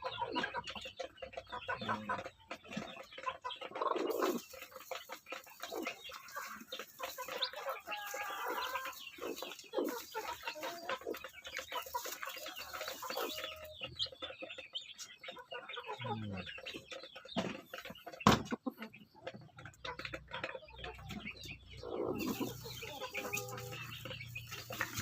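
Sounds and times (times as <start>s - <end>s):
hen clucking: 0.0s - 25.0s.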